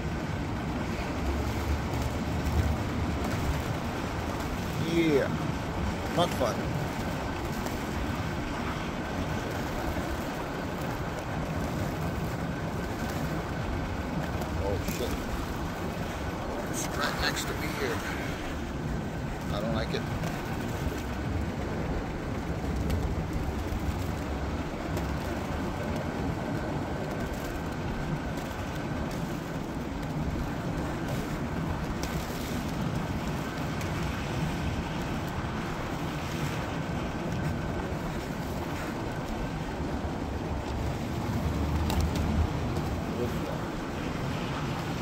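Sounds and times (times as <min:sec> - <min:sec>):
vehicle engine and tyre rumble: 0:00.0 - 0:45.0.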